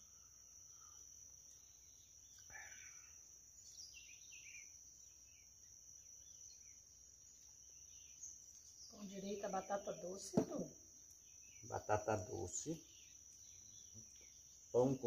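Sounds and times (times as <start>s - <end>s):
crickets droning: 0.0s - 15.0s
soft bird chirps: 0.0s - 15.0s.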